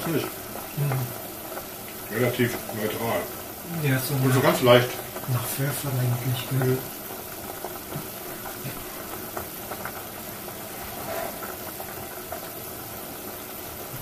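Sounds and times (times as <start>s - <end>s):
soup boiling in a pot: 0.0s - 14.0s.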